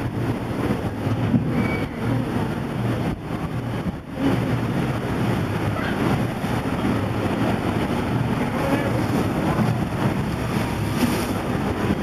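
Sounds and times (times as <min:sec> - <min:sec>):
water rushing down slides: 0:00.0 - 0:12.0
wind buffeting microphone: 0:00.0 - 0:12.0.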